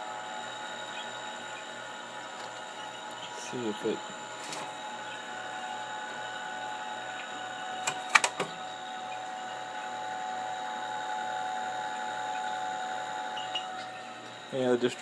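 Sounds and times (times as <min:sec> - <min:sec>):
floppy drive motor and fan hum: 0:00.0 - 0:15.0.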